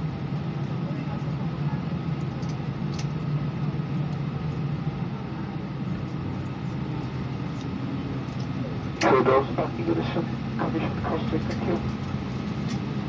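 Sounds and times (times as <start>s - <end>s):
aircraft engines idling: 0.0s - 13.0s
faint steady whine: 0.0s - 13.0s
cabin air running: 1.8s - 13.0s.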